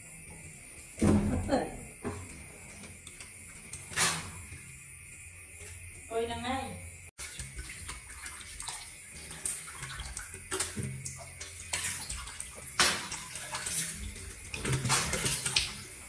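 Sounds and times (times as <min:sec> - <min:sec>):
water splashing in a metal basin: 0:00.2 - 0:06.3, 0:07.2 - 0:16.0.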